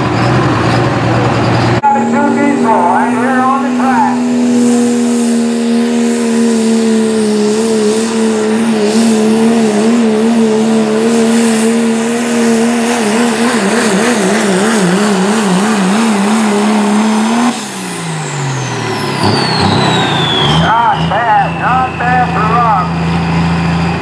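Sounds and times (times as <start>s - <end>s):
diesel engine at full throttle: 0.0s - 24.0s.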